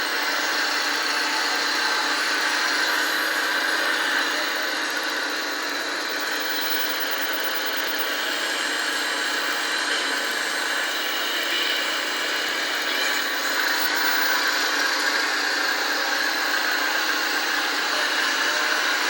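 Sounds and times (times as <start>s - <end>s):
faint high whine: 0.0s - 19.0s
model machinery whirring: 0.0s - 19.0s.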